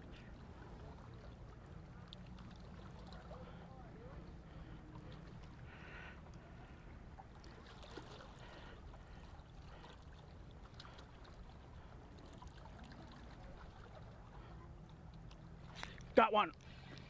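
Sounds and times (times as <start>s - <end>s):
faint water sounds: 0.0s - 17.0s.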